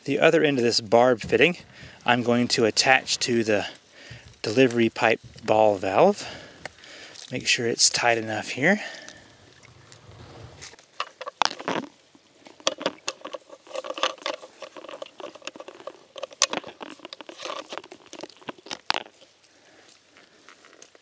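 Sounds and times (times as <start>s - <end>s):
plastic pipe squeaking and creaking: 0.0s - 7.3s, 9.1s - 19.2s.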